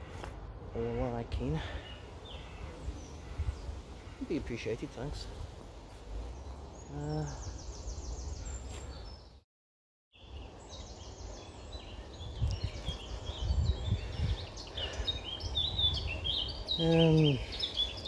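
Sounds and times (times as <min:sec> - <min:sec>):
songbirds singing: 0:00.0 - 0:09.4, 0:10.1 - 0:18.0.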